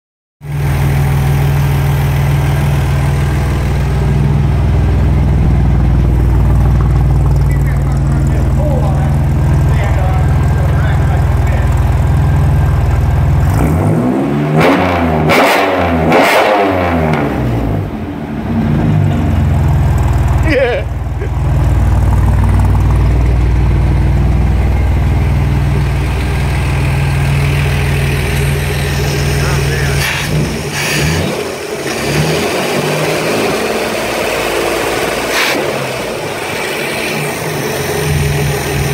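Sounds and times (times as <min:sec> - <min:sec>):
car engine idling: 0:00.4 - 0:14.0, 0:17.4 - 0:38.9.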